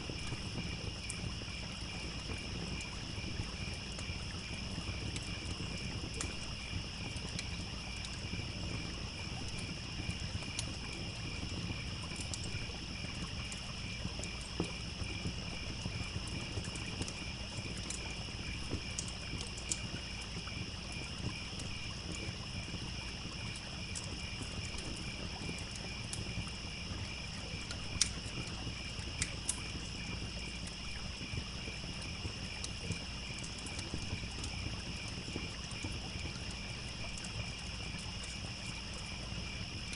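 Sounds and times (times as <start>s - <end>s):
campfire crackling and popping: 0.0s - 39.9s
crickets chirping: 0.0s - 39.9s
trickling stream: 0.0s - 39.9s.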